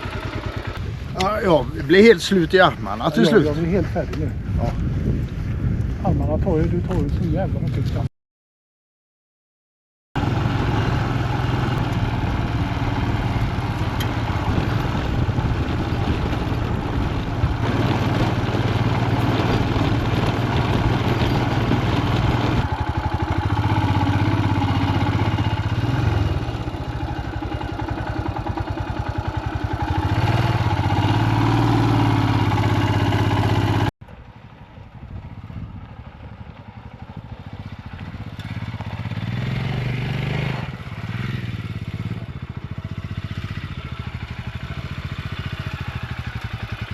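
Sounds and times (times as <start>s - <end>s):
motorcycle engine running: 0.0s - 8.0s, 10.2s - 46.9s.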